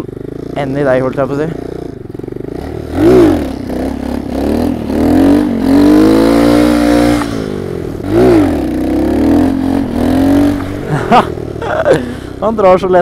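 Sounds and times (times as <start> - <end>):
small motorbike engine revving: 0.0 - 12.6.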